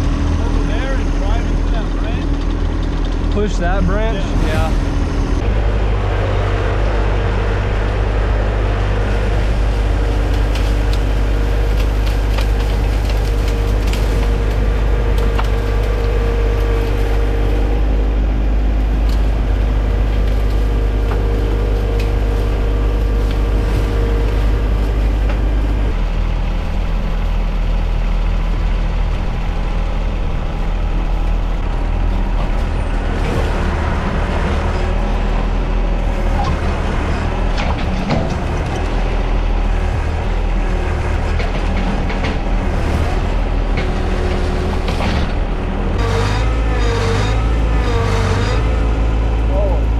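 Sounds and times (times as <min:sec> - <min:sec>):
diesel tractor engine running: 0:00.0 - 0:49.9.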